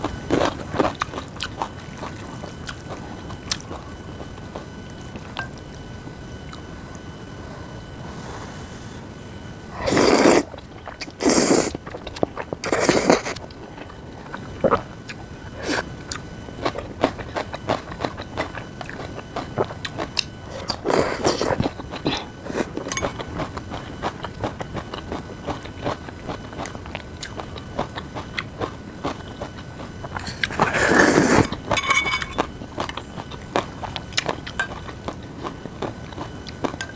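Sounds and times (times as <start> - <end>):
crunchy chewing: 0.0 - 8.5, 9.7 - 36.9.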